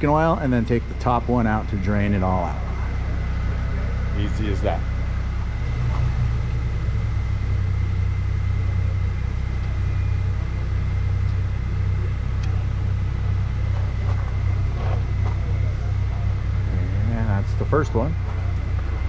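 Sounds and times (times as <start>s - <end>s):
faint high whine: 0.0s - 19.0s
low machine rumble: 0.0s - 19.0s.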